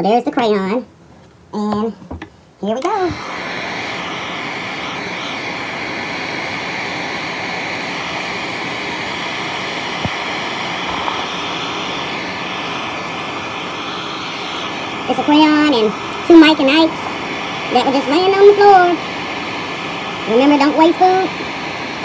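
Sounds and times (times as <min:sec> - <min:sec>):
heat gun fan blowing: 0:01.6 - 0:22.0.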